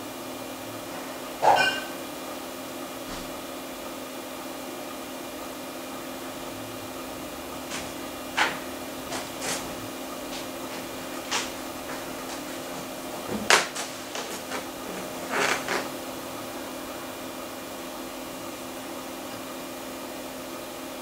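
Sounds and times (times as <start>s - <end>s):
hard drive spinning hum: 0.0s - 21.0s.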